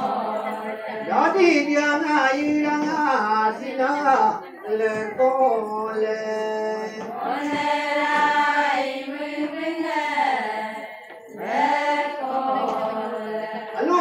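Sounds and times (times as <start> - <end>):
group chanting in unison: 0.0 - 5.7, 6.8 - 14.0.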